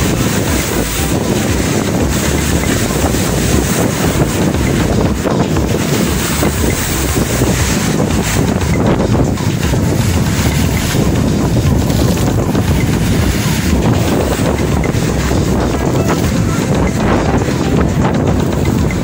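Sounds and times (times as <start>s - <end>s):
strong wind on microphone: 0.0s - 19.0s
waves breaking against seawall: 0.0s - 19.0s.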